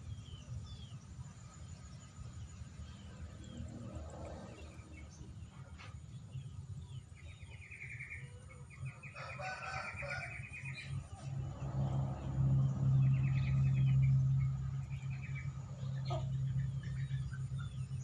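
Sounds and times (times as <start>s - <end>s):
birds trilling: 0.0s - 18.0s.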